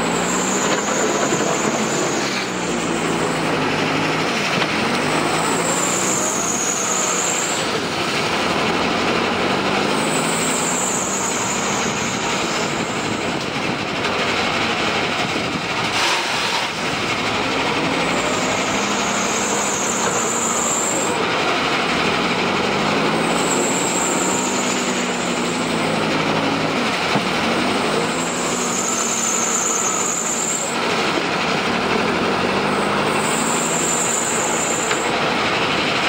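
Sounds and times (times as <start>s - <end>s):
bucket working sand and gravel: 0.0s - 36.0s
diesel engine revving under load: 0.0s - 36.0s
high whine: 0.0s - 36.0s.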